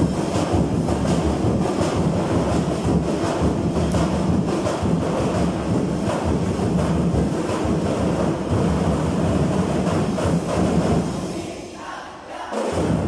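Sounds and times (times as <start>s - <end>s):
many drums playing: 0.0s - 11.5s, 12.4s - 13.0s.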